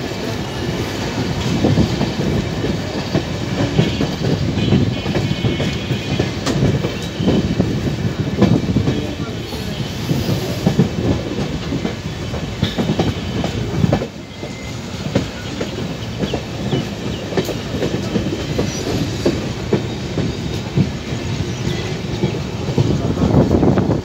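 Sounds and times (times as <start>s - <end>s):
wheel and rail rumble: 0.0s - 24.0s.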